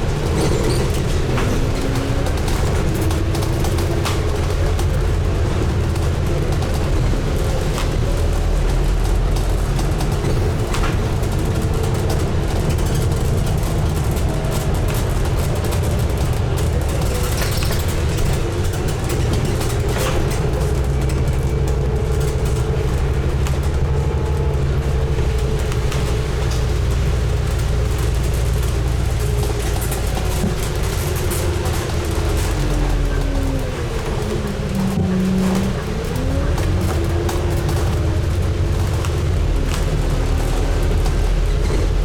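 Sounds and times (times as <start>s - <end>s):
bus diesel engine droning: 0.0s - 42.0s
faint rattles and knocks: 0.0s - 42.0s
road noise: 0.0s - 42.0s.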